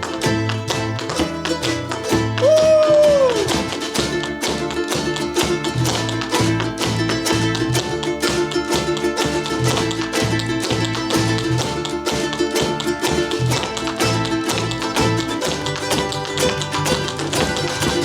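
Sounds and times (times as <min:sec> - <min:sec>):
band playing instrumental: 0:00.0 - 0:18.0
strummed guitar rhythm: 0:00.0 - 0:18.0.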